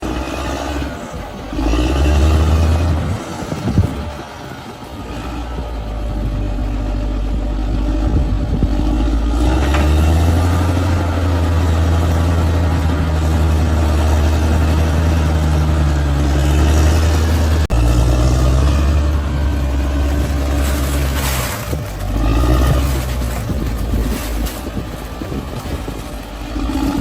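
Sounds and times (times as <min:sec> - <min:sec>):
bulldozer diesel engine drone: 0:00.0 - 0:27.0.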